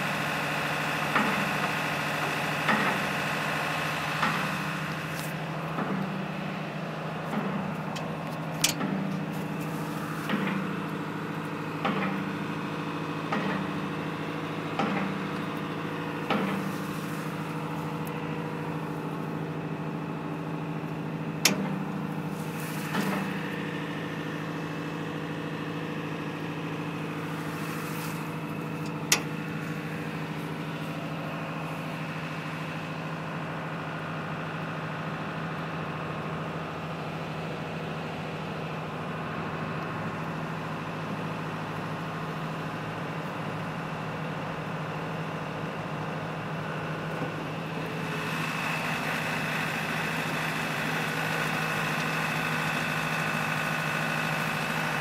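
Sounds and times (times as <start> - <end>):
ship engine idling: 0.0 - 55.0.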